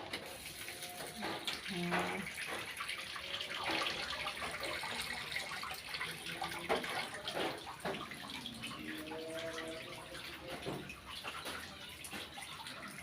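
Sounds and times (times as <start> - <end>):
water draining from washing machine: 0.0 - 13.0.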